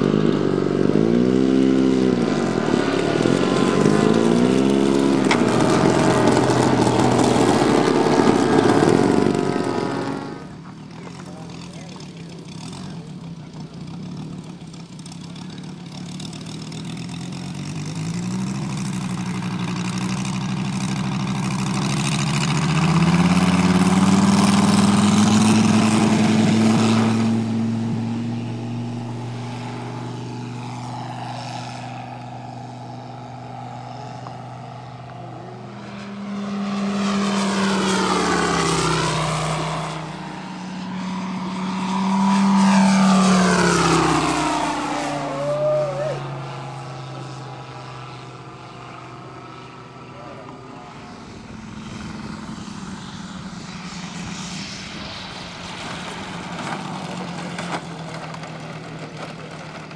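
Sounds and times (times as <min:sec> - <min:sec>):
model airplane engine: 0:00.0 - 0:59.9.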